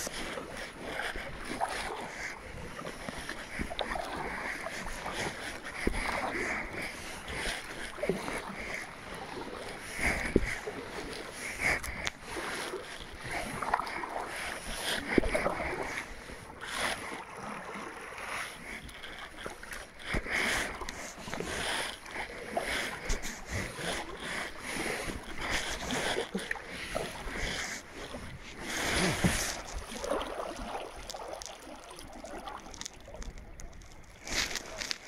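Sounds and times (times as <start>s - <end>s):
paddle splashing in water: 0.0s - 35.0s.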